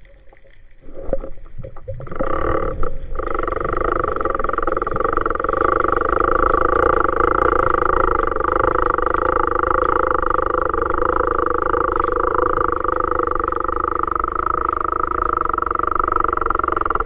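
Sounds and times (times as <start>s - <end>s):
motor droning: 2.0s - 17.0s.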